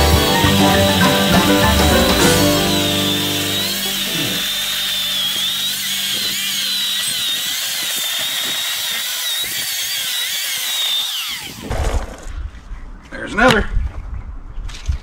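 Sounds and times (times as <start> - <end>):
electric chainsaw cutting log: 0.0 - 12.3.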